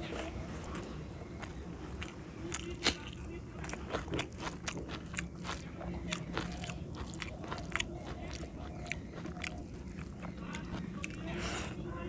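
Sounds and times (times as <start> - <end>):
chewing and mouth smacking: 0.0 - 11.8.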